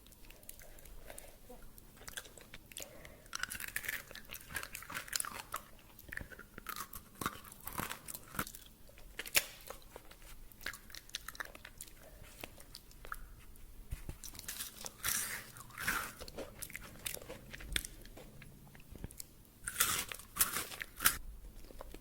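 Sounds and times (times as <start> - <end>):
chewing and crunching candy: 0.0 - 22.0.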